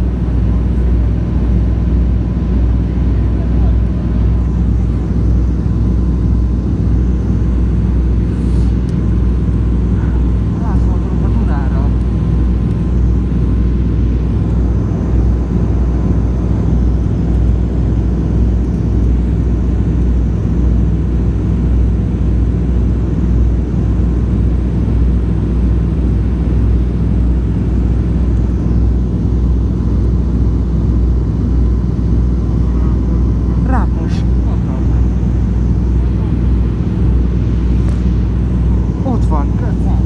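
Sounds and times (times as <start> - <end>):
aircraft piston engines droning: 0.0 - 40.0.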